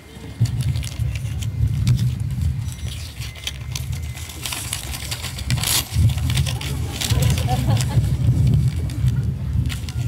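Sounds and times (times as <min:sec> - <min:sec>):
low uneven rumble: 0:00.0 - 0:10.0.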